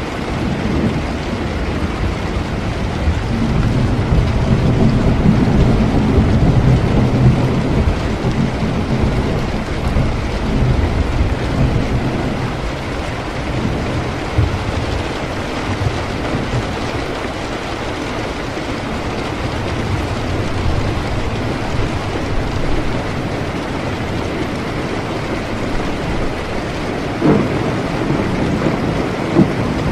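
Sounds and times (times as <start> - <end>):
steady rain: 0.0 - 29.9
rolling thunder rumble: 0.3 - 29.9.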